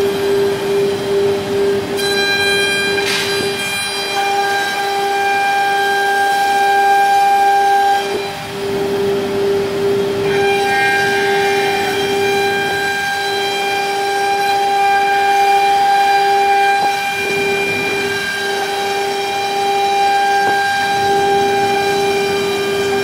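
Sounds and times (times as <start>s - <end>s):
router spindle whining: 0.0s - 23.0s.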